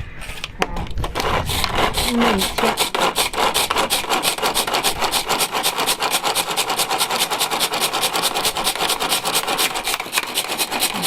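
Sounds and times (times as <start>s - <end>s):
kitchen tool scraping food: 1.0s - 11.0s.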